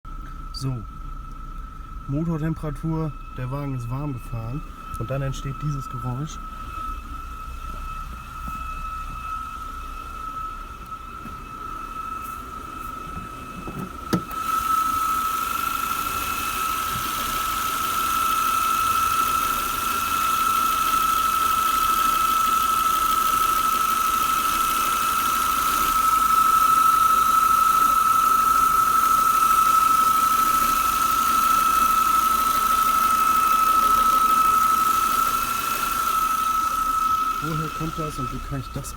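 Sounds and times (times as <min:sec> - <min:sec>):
engine running: 0:00.0 - 0:38.9
high-pitched engine squeal: 0:00.1 - 0:38.9.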